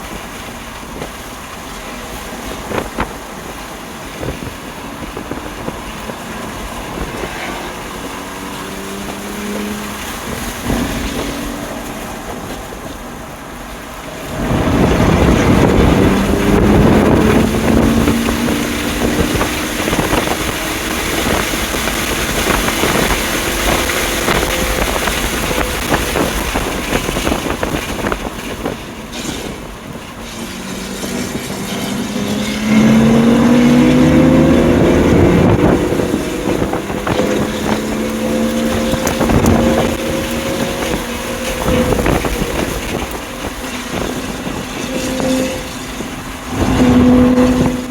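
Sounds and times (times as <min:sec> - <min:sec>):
wind noise: 0:00.0 - 0:47.9
car engine revving through upshifts: 0:03.6 - 0:47.9.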